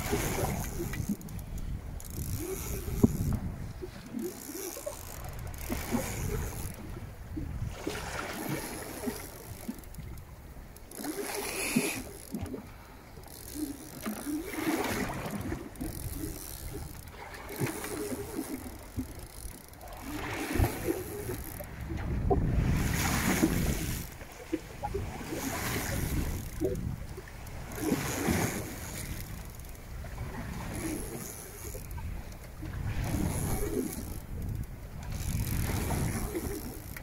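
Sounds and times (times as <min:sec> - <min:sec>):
water splashing against boat: 0:00.0 - 0:37.0.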